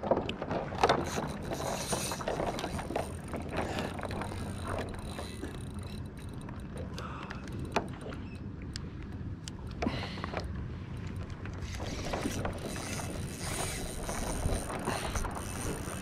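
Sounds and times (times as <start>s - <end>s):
fishing gear clicks and knocks: 0.0s - 16.0s.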